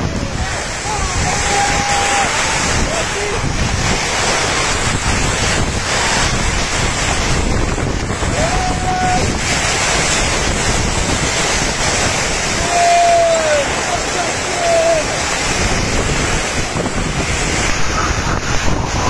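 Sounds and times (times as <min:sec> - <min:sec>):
wind gusting on microphone: 0:00.0 - 0:19.0.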